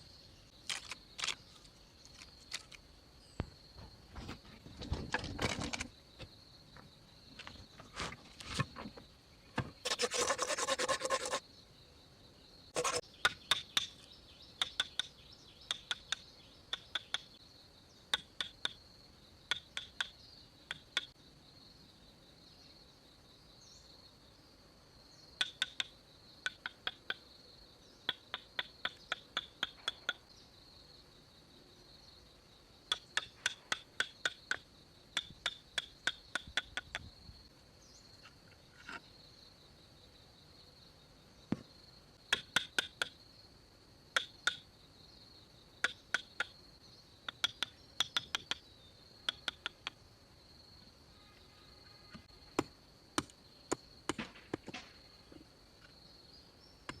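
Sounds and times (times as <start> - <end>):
insect chirring: 0.0 - 4.0, 9.8 - 23.4, 24.9 - 54.2.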